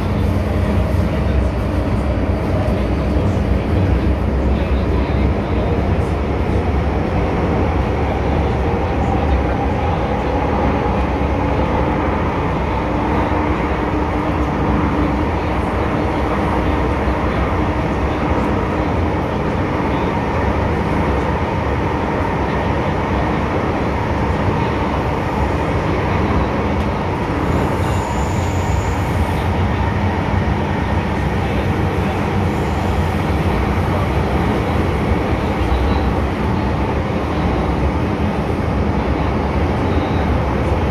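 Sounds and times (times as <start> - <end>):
wheels rumbling on rail: 0.0 - 40.9.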